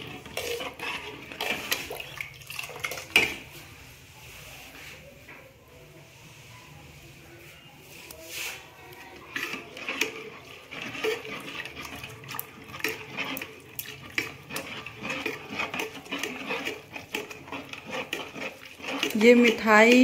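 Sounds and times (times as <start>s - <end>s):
ladle scraping metal pot: 0.0s - 3.9s, 7.9s - 20.0s.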